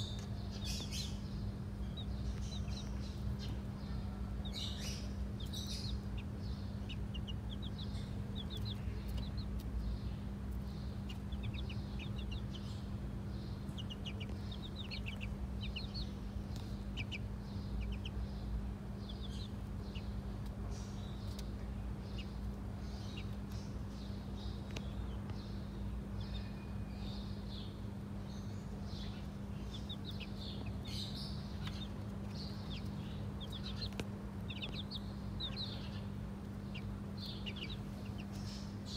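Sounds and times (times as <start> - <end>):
chicks peeping: 0.0 - 38.9
steady low hum: 0.0 - 38.9.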